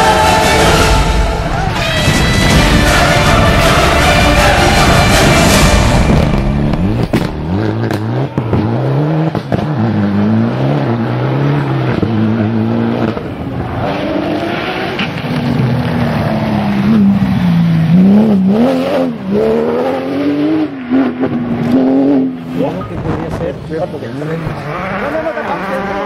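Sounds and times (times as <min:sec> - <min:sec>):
rally car engine revving: 0:00.0 - 0:26.0
sports car approaching and revving: 0:03.4 - 0:26.0.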